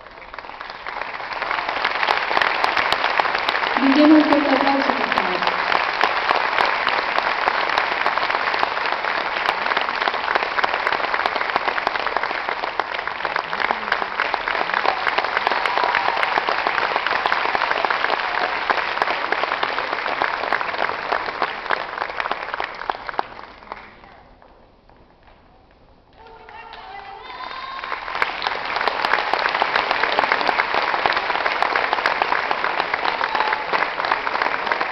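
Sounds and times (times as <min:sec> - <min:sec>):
audience applauding: 0:00.0 - 0:24.4, 0:26.2 - 0:34.9.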